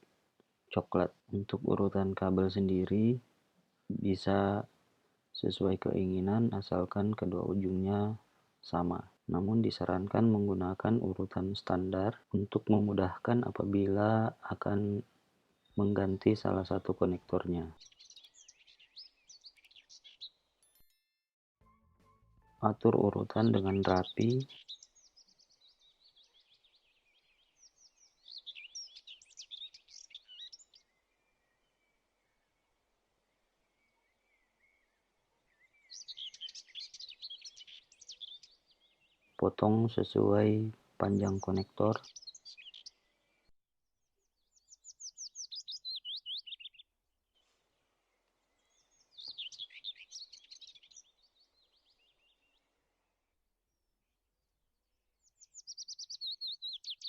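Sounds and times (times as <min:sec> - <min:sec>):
songbird chirping: 0:00.0 - 0:57.0.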